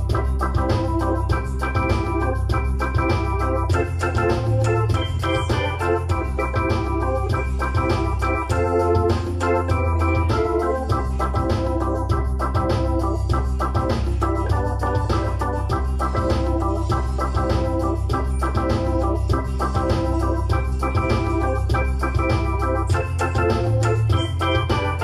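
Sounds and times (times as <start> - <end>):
deep steady bass: 0.0 - 25.0
keyboard organ gospel chords: 0.0 - 25.0.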